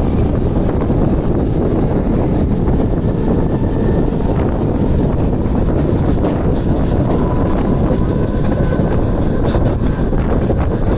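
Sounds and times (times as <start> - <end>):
train wheels rumbling: 0.0 - 10.9
wind buffeting microphone: 0.0 - 10.9.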